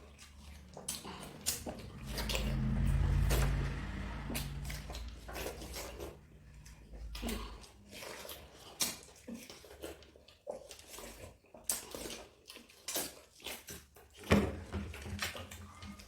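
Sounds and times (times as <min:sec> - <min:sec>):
wet chewing and slurping: 0:00.0 - 0:16.0.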